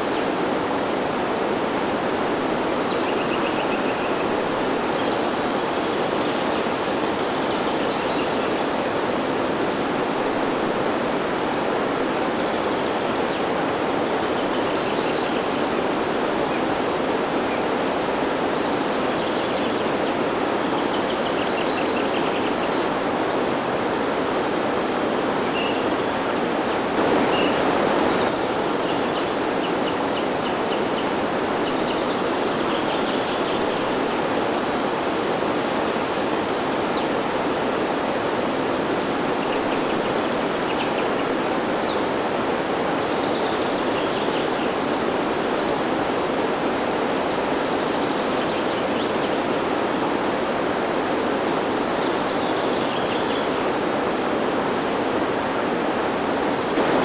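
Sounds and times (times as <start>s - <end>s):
stream rushing over waterfall: 0.0s - 57.0s.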